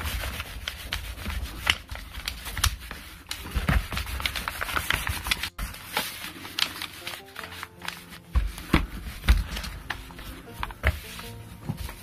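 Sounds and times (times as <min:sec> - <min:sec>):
cloth rubbing on plastic: 0:00.0 - 0:12.0.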